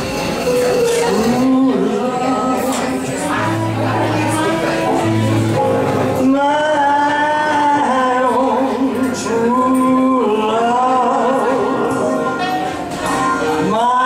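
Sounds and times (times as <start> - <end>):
woman singing a slow ballad: 1.0 - 12.5, 13.1 - 14.0.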